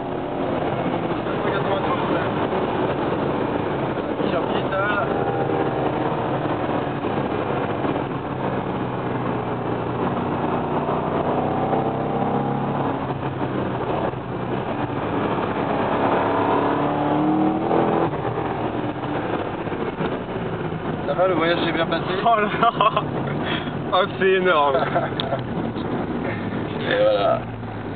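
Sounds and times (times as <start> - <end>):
car engine accelerating hard: 0.0 - 27.9.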